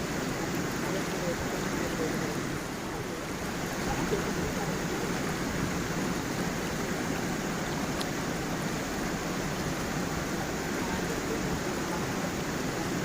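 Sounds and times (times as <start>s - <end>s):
stream and small waterfall: 0.0s - 13.0s.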